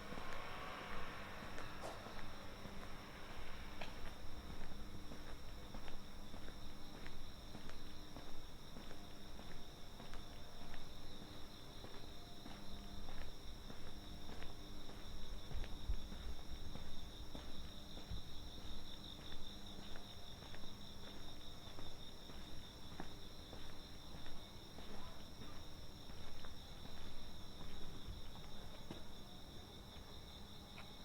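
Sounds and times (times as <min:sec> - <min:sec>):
footsteps walking: 0:00.0 - 0:29.3.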